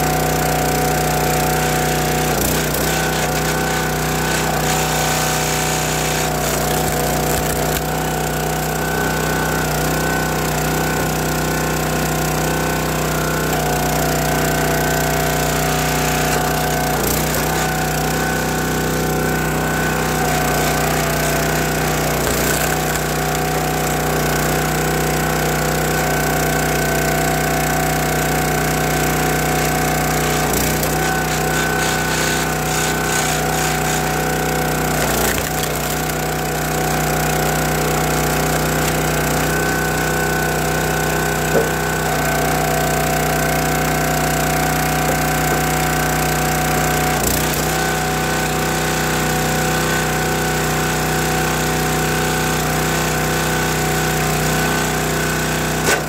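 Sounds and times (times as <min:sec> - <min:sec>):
small gas engine running: 0:00.0 - 0:56.0.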